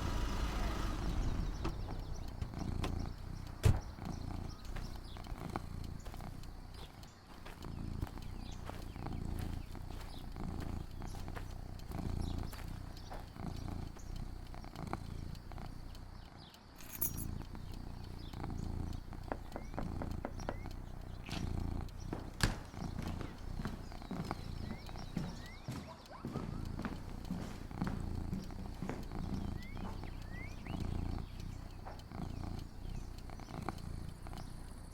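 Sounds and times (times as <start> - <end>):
animal purring: 0.0 - 34.9
faint clicks: 0.0 - 34.9.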